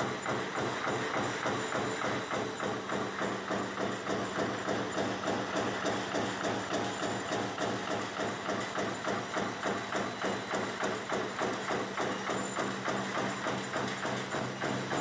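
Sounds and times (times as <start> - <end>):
machine regular beat: 0.0 - 15.0.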